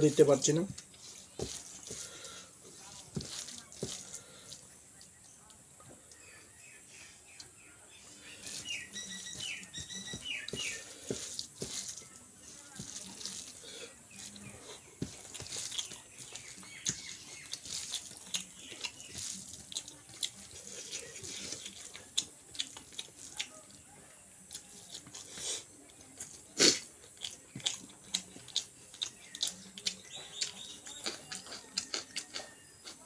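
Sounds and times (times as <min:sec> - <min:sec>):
person chewing food: 0:00.6 - 0:05.6, 0:08.1 - 0:23.8, 0:24.4 - 0:33.0.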